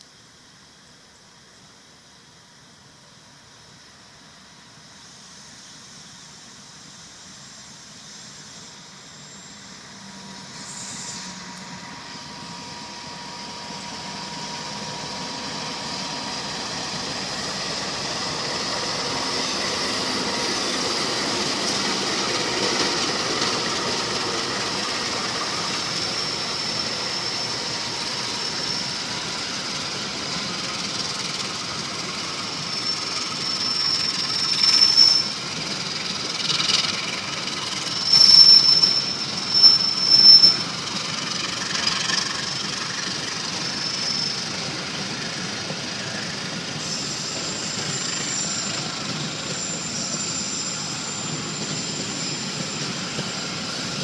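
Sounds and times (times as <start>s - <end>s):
diesel locomotive approaching: 2.7s - 54.0s
high wheel squeal: 8.2s - 54.0s.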